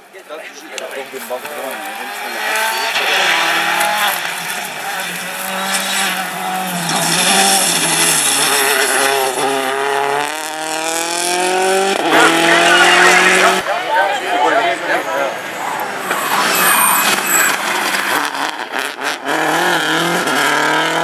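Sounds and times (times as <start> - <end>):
rally car engines accelerating: 1.0 - 21.0.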